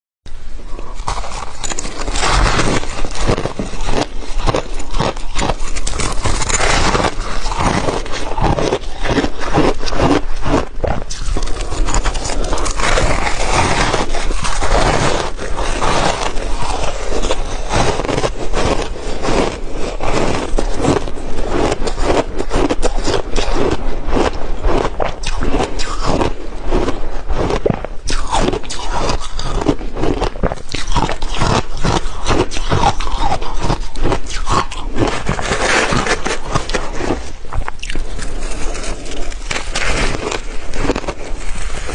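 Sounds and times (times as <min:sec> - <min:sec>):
ice being chewed: 0:00.6 - 0:41.9.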